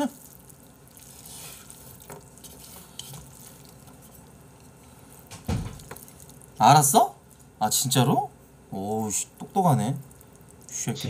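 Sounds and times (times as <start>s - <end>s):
chopsticks stirring wet noodles: 0.0s - 11.0s.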